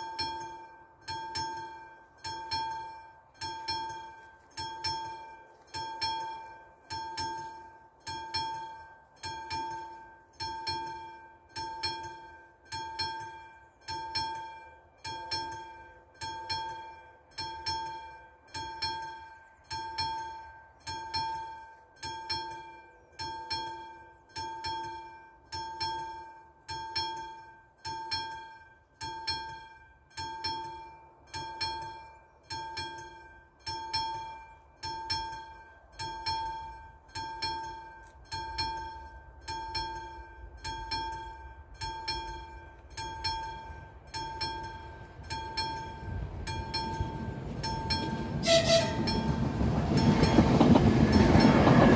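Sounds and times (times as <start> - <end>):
level-crossing bell ringing: 0.0 - 51.9.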